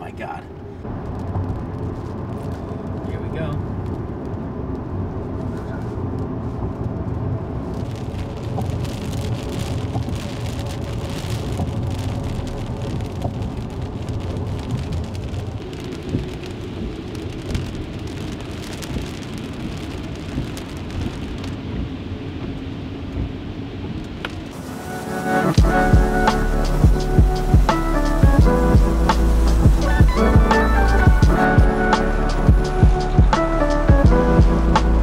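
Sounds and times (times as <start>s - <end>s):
car rumbling on road: 0.0s - 35.0s
heavy rain on car windshield: 0.0s - 35.0s.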